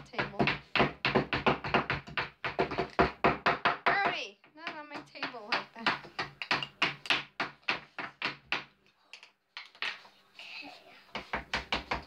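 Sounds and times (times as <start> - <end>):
wooden hammers tapping plaster: 0.0 - 10.1, 10.9 - 12.0.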